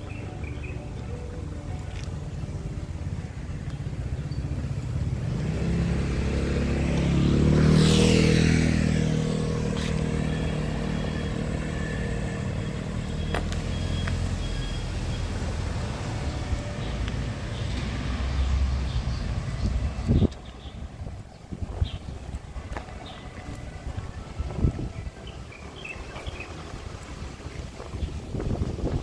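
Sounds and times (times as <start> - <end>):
vehicle engine and tyre noise: 0.0 - 29.0.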